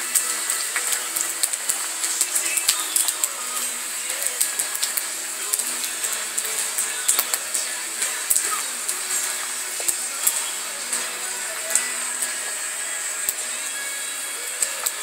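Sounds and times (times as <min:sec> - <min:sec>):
deep-frying sizzle: 0:00.0 - 0:15.0
oil popping and crackling: 0:00.0 - 0:15.0.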